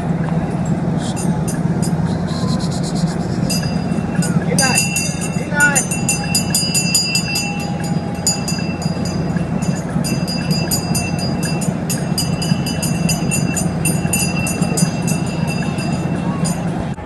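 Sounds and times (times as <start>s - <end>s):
low machine hum: 0.0s - 17.0s
small bells ringing: 0.0s - 17.0s.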